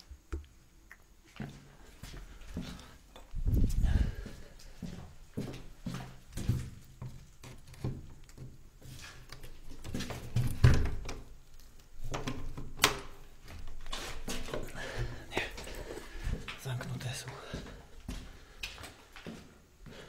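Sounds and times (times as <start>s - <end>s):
footsteps in a small room: 0.0s - 20.0s.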